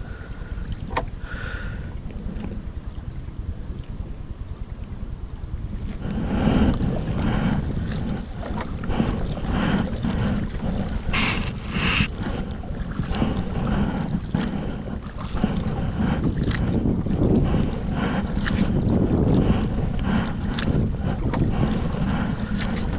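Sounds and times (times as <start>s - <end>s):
paddle splashing water: 0.0s - 4.1s, 5.6s - 22.9s
wind buffeting microphone: 0.0s - 22.9s.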